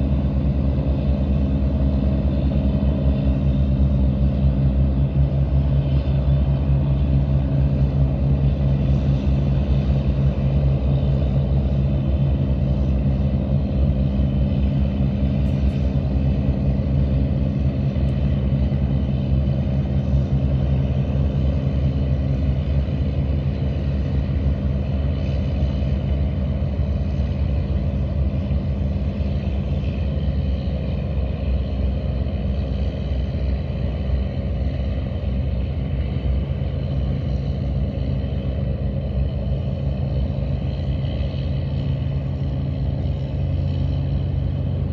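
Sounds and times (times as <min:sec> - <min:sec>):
boat diesel engines droning: 0:00.0 - 0:44.9.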